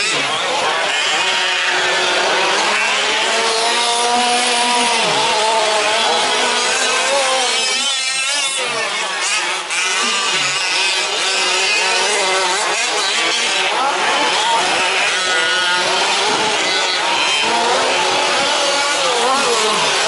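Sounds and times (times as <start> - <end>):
small two-stroke engines buzzing: 0.0 - 20.0.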